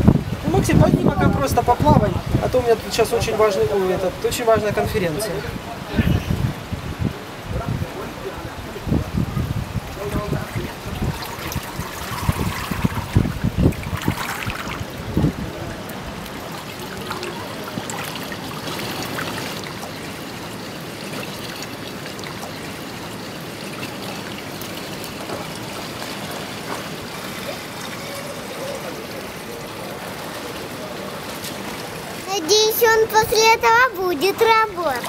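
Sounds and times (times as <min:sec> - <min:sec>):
pool water trickling: 0:00.0 - 0:35.0.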